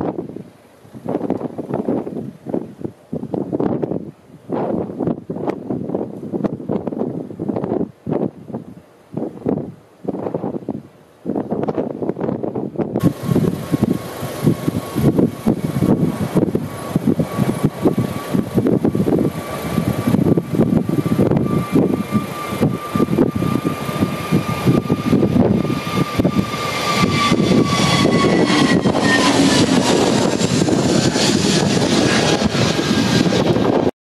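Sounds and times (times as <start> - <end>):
jet airliner engine whine: 0.0 - 8.6, 11.6 - 34.0
wind buffeting microphone: 0.0 - 33.9.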